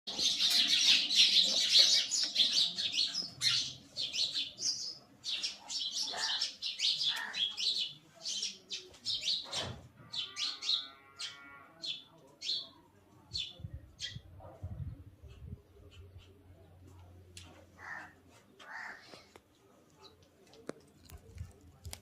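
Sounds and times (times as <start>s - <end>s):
sparrows chirping: 0.1s - 20.2s.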